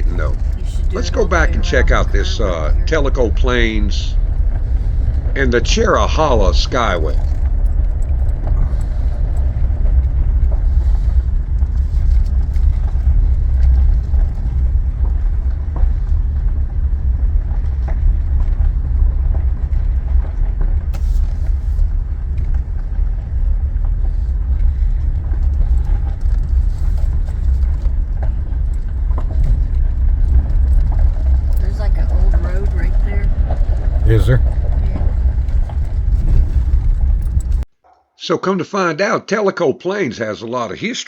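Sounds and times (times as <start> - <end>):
car engine and tyre rumble: 0.0 - 37.7.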